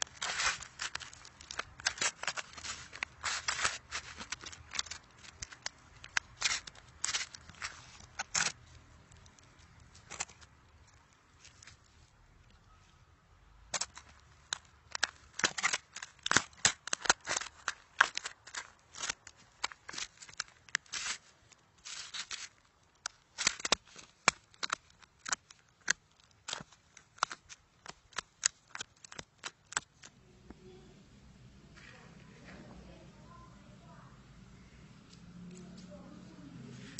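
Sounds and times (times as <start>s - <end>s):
crunchy slime crackling and popping: 0.0s - 30.2s.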